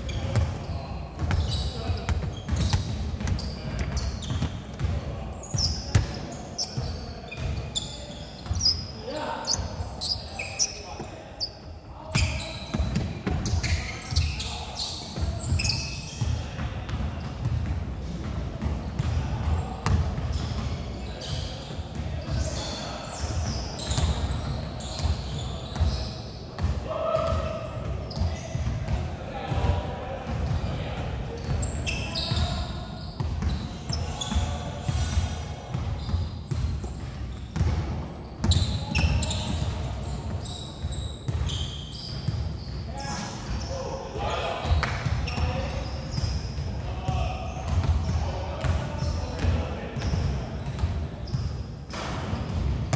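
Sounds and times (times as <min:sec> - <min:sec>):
sneaker squeaks: 0:00.0 - 0:17.6, 0:18.9 - 0:28.7, 0:30.2 - 0:52.9.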